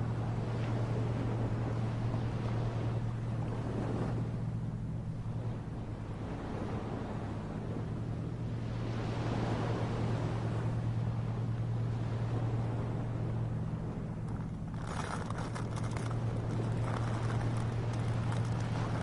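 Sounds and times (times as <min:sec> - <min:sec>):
steady low hum: 0:00.0 - 0:19.0
surf on a beach: 0:00.0 - 0:19.0.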